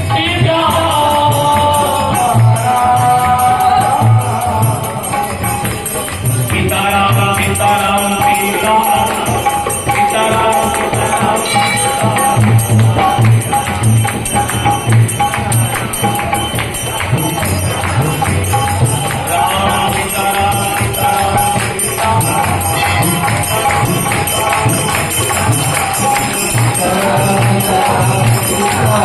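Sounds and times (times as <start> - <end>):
harmonium: 0.0 - 29.0
jingling hand percussion: 0.0 - 29.0.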